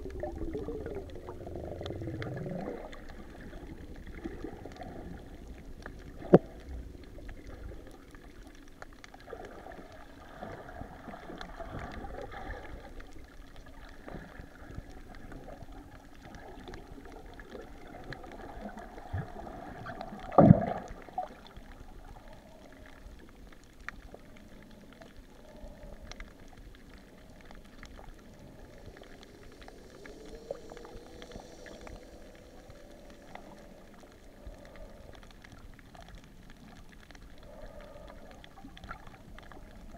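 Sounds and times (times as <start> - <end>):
faint steady hum: 0.0 - 39.9
underwater bubbling and gurgling: 0.0 - 39.9.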